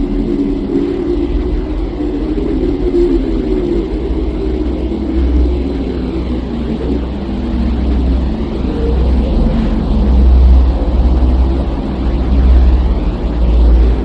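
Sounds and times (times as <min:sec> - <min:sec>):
deep rumbling drone: 0:00.0 - 0:14.0
slow sweeping whoosh: 0:00.0 - 0:14.0.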